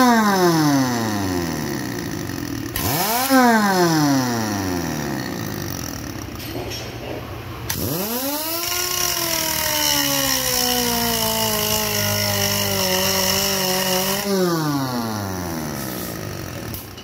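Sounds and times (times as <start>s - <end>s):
pneumatic grinder grinding steel: 0.0s - 17.0s.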